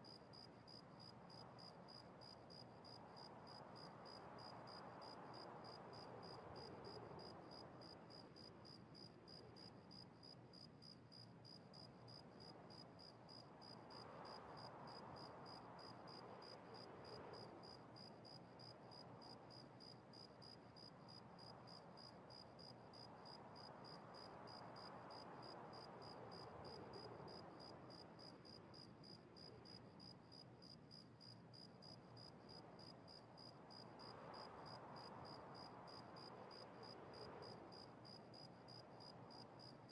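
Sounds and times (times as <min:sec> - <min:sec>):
faint room hiss: 0:00.0 - 0:39.9
soft swells of noise: 0:00.0 - 0:39.9.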